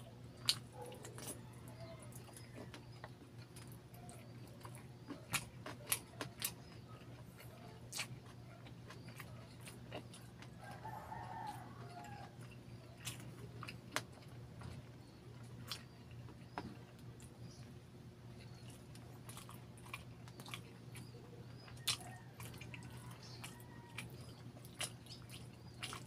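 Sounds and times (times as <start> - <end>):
steady low hum: 0.0 - 26.0
wet chewing: 0.0 - 26.0.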